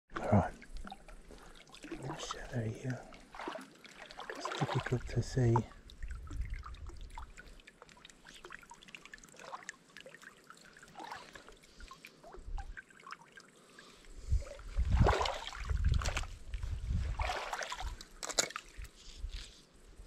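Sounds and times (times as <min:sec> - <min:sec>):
small water splashes: 0:00.1 - 0:19.3
water sloshing: 0:00.1 - 0:19.3
river water trickling: 0:00.1 - 0:20.0.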